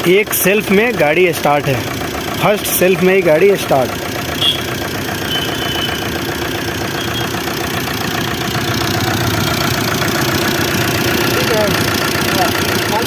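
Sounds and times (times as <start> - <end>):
diesel engine idling with clatter: 0.0 - 13.0.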